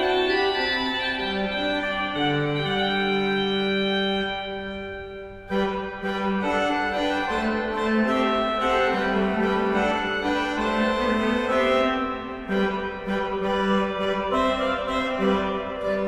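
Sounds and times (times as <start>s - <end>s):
pipe organ playing carol: 0.0s - 16.0s.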